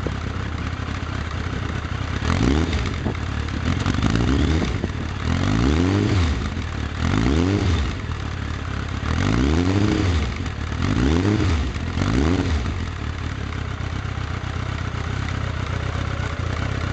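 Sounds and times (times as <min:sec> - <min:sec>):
motorcycle engine revving and idling: 0:00.0 - 0:16.9.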